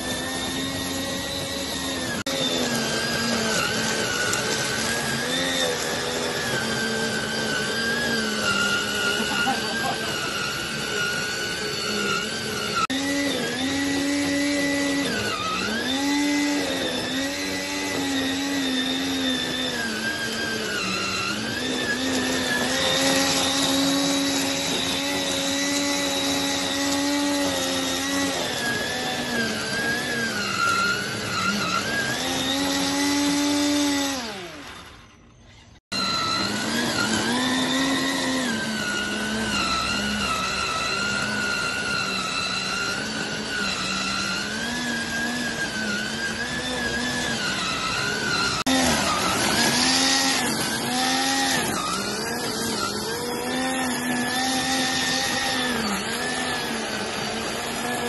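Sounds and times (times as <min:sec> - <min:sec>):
weed trimmer motor whine: 0:00.0 - 0:58.0.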